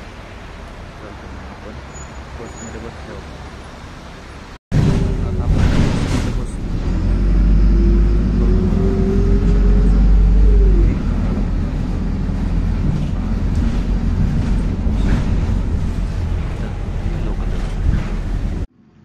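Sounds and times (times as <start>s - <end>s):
bus engine rumble with whine: 0.0s - 19.0s.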